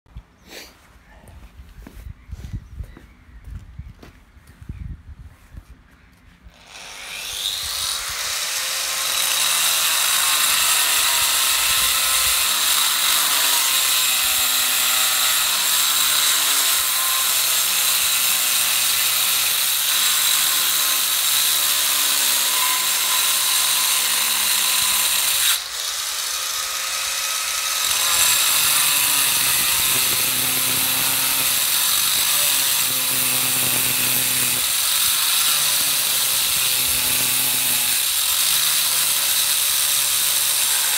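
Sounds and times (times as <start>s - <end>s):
angle grinder cutting stone: 6.5s - 40.9s.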